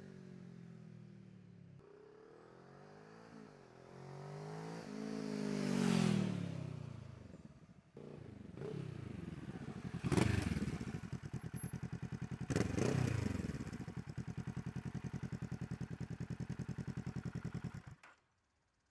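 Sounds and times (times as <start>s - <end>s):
motorcycle idling and revving: 0.0s - 18.8s.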